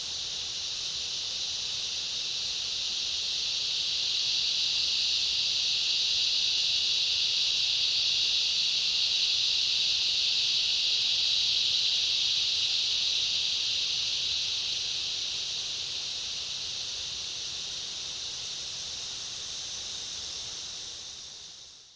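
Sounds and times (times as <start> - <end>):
cicada chorus buzzing: 0.0 - 21.9.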